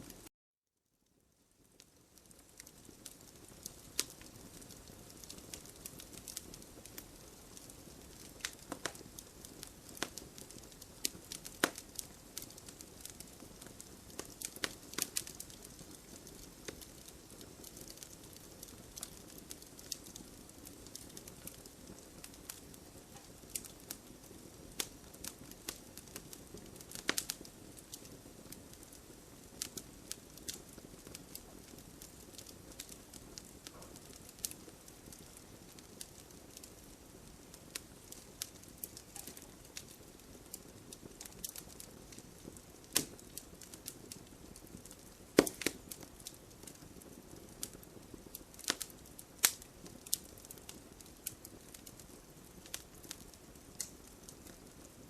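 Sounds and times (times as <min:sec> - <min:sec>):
fire popping and snapping: 0:01.1 - 0:55.0
fireplace fire hissing: 0:01.6 - 0:55.0.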